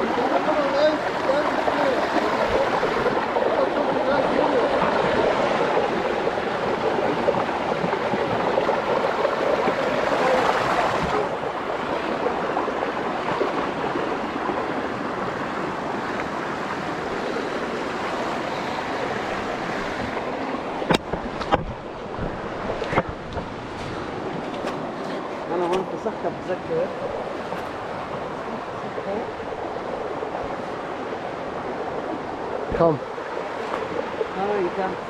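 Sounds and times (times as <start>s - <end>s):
rushing river water: 0.0s - 35.0s.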